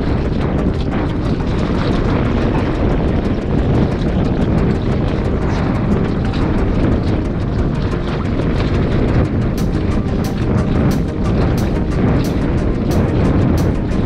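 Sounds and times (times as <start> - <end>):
choppy sea: 0.0 - 14.0
wind buffeting microphone: 0.0 - 14.0.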